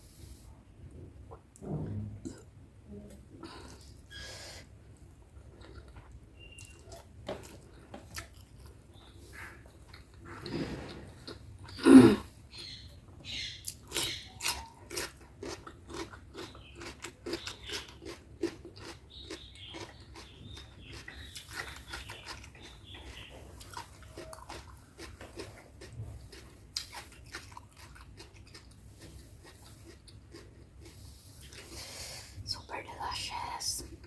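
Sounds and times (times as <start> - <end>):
person chewing food: 3.4 - 32.4.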